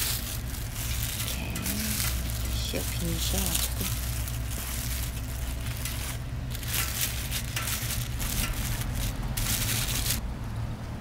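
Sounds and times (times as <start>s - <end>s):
plastic cling wrap crinkling: 0.0s - 10.2s
steady low hum: 0.0s - 11.0s.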